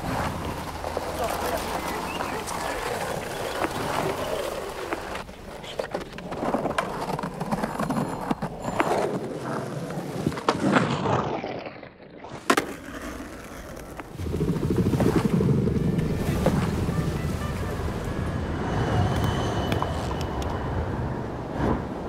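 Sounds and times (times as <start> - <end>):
skateboard wheels rumbling: 0.0 - 22.0.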